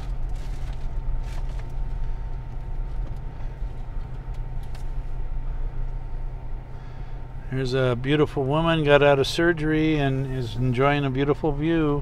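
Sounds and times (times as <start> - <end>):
car engine rumble from cabin: 0.0 - 12.0
faint steady hum: 0.0 - 12.0.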